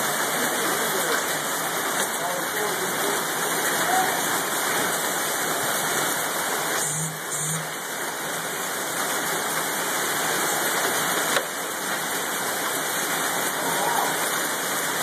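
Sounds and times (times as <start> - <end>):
hail and heavy rain on gravel: 0.0 - 6.8, 7.7 - 15.0.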